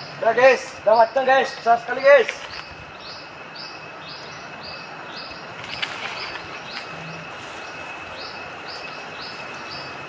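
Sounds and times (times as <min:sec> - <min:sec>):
bird chirping: 0:00.0 - 0:10.0
thin high whine: 0:00.0 - 0:10.0.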